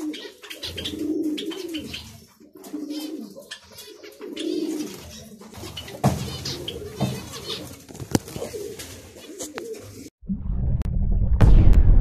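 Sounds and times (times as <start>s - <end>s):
birds chirping: 0.0s - 10.1s
birds cooing: 0.0s - 10.1s.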